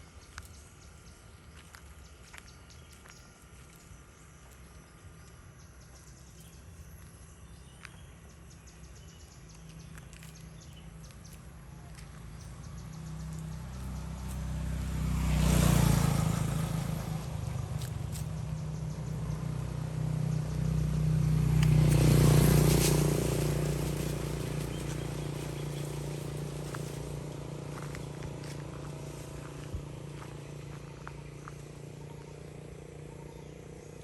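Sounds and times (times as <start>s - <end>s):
low engine hum: 0.0s - 34.0s
vehicles passing by: 0.0s - 34.0s.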